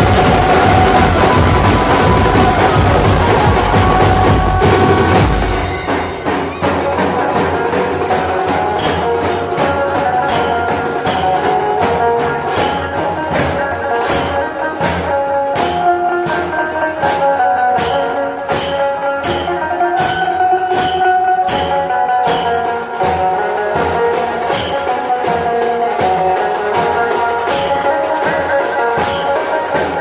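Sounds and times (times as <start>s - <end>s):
drum ensemble playing a melody: 0.0s - 30.0s.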